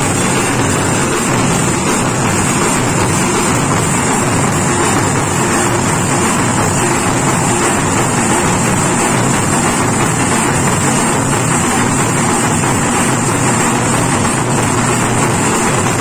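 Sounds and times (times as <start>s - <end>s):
drums beaten with sticks: 0.0s - 16.0s.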